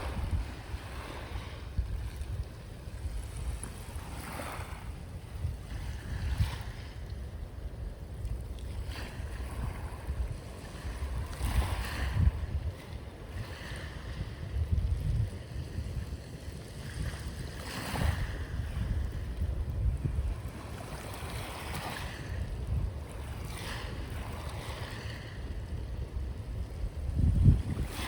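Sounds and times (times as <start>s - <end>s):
sea waves washing onto shore: 0.0s - 28.0s
wind buffeting microphone: 0.0s - 28.0s.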